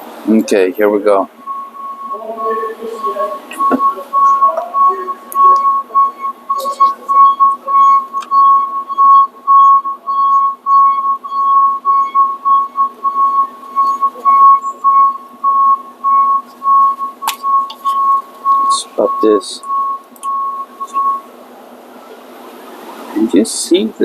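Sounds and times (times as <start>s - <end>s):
high electronic beeping: 0.4s - 21.3s.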